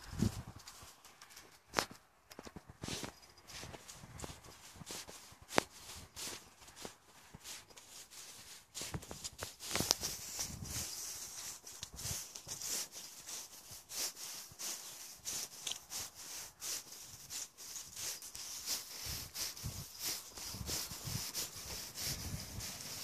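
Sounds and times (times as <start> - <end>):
footsteps on dry leaves: 0.0 - 2.0, 2.7 - 23.0
handheld phone rubbing: 2.8 - 23.0
leaves rustling: 2.8 - 23.0.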